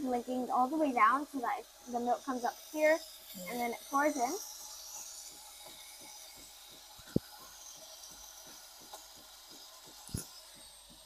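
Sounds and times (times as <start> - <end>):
coffee machine frothing milk: 0.0 - 11.0.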